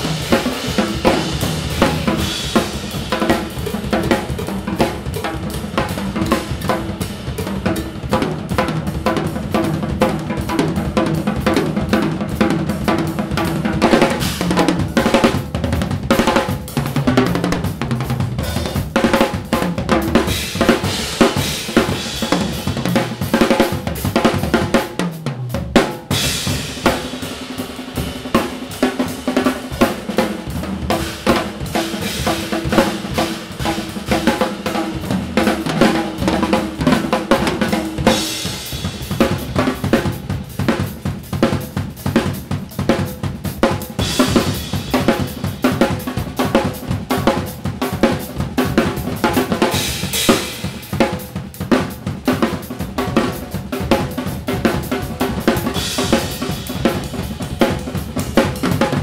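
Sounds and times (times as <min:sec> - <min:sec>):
drum kit playing: 0:00.0 - 0:59.0.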